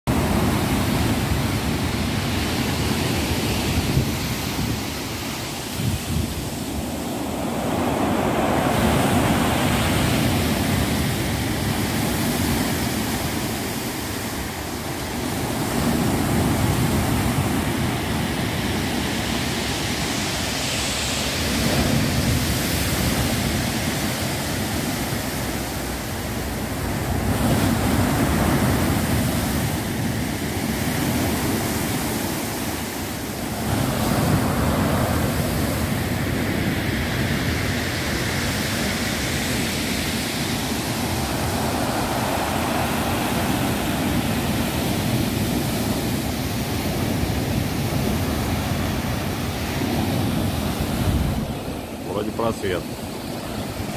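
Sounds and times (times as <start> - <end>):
storm surf breaking: 0.1 - 53.9.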